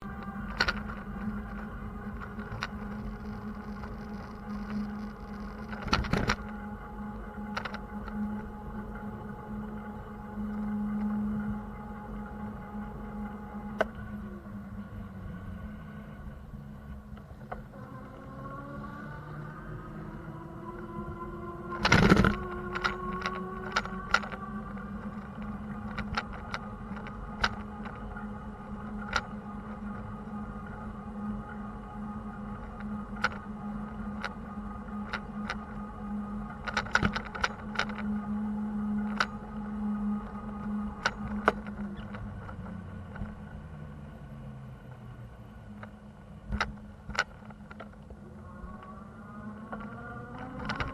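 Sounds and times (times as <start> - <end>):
sharp clicks and rattles: 0.0 - 14.2, 19.9 - 43.6, 45.8 - 48.9, 49.5 - 50.9
low hum of traffic: 0.0 - 50.9.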